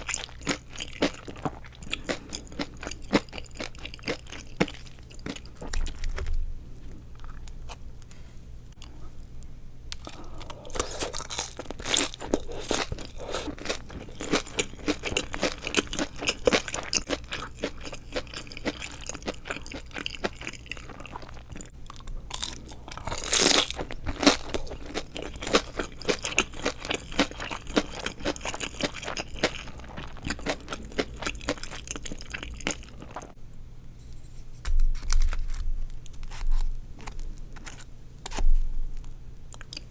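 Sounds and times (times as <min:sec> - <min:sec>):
crunching and chewing: 0:00.0 - 0:07.8, 0:08.8 - 0:33.4, 0:34.6 - 0:39.9.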